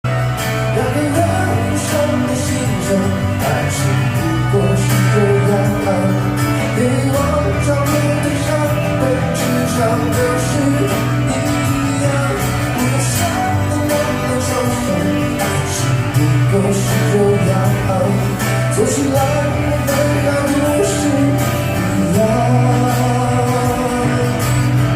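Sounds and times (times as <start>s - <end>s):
steady low bass: 0.1s - 24.9s
person singing: 0.4s - 24.9s.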